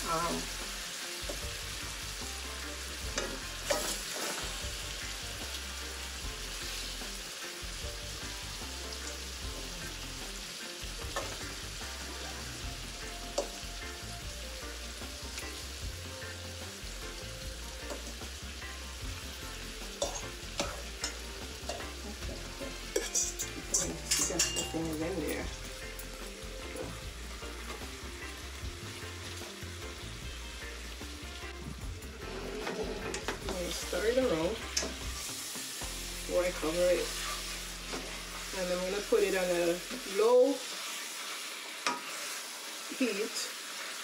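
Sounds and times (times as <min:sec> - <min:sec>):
chicken sizzling in hot oil: 0:00.0 - 0:44.0.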